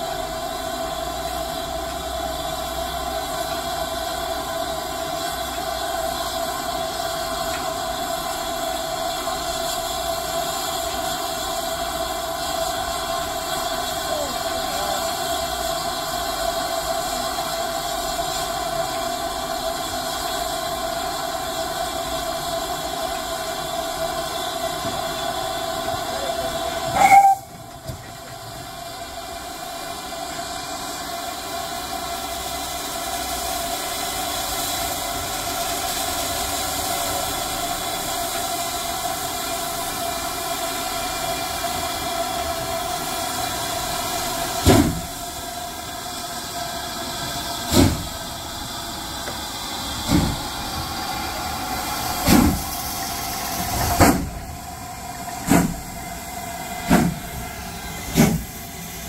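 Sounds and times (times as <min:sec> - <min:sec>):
locomotive exhaust chuffs: 0:00.0 - 0:59.0
steam locomotive hissing: 0:00.0 - 0:59.0.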